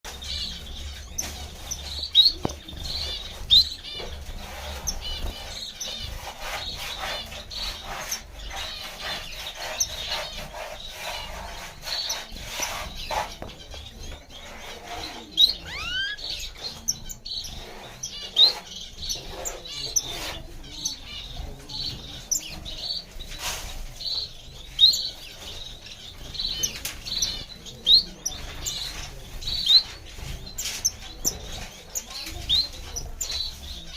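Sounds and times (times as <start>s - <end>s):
finches chirping: 0.1s - 33.9s.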